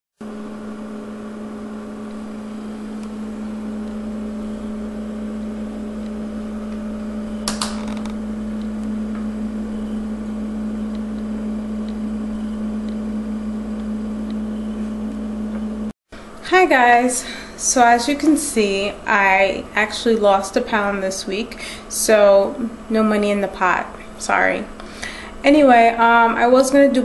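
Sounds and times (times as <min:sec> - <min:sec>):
steady low hum: 0:00.2 - 0:27.0.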